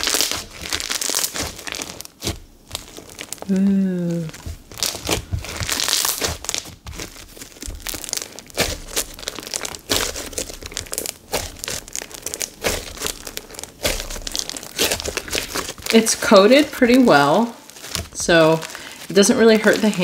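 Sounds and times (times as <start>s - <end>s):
beaded slime crackling and popping: 0.0s - 20.0s.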